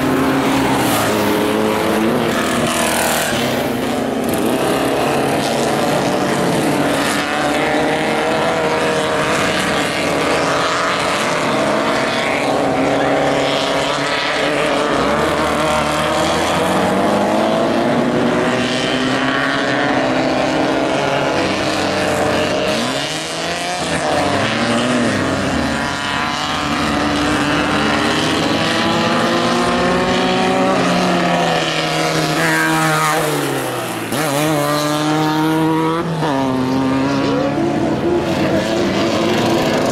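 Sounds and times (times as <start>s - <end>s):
racing buggy engines revving: 0.0s - 39.9s.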